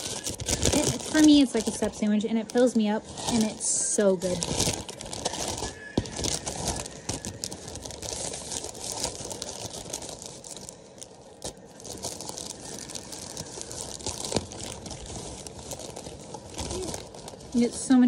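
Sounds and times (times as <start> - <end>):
wrapping crinkling and tearing: 0.0 - 18.0.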